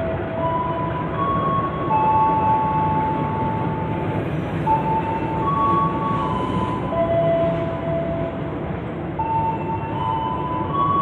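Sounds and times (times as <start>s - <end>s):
train carriages rumbling past: 0.0s - 11.0s.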